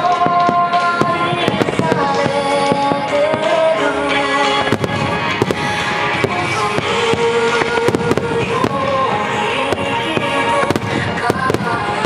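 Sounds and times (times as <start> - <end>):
fireworks bangs and crackles: 0.0 - 12.0
music with held notes: 0.0 - 12.0.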